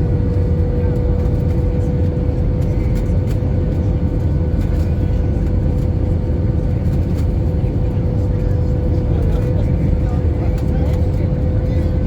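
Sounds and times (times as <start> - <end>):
airplane cabin rumble: 0.0 - 12.0
constant mid-pitched hum: 0.0 - 12.0.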